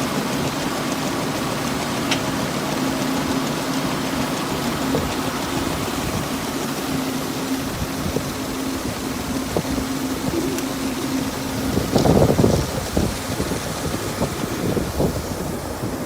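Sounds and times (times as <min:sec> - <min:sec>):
grain machinery humming: 0:00.0 - 0:16.0.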